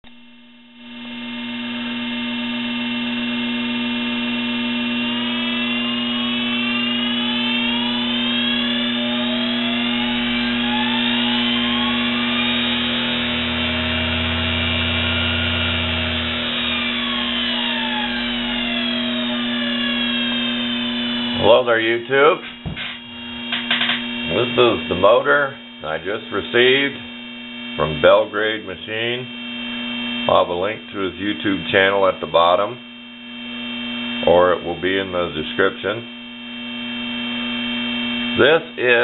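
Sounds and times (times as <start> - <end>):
electrical hum: 0.0 - 39.0
electric motor whining: 0.8 - 32.6.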